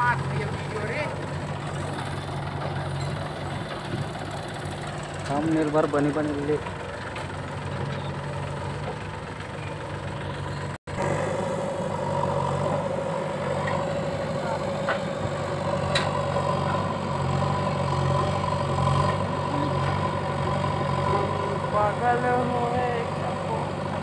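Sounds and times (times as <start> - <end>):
diesel engines droning: 0.0 - 24.0
higher engine hum: 0.0 - 24.0.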